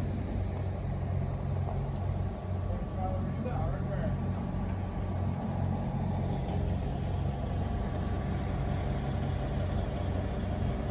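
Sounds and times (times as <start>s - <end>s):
diesel engine droning: 0.0s - 10.9s.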